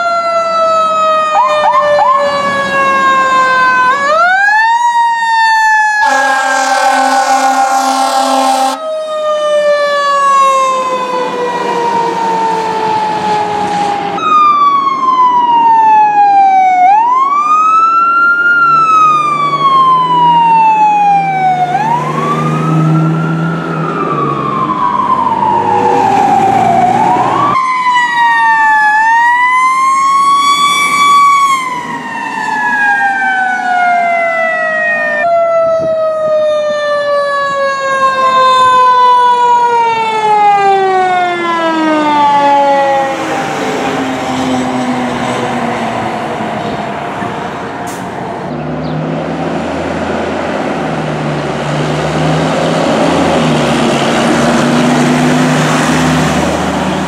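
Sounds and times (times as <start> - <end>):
fire truck sirens wailing: 0.0 - 57.0.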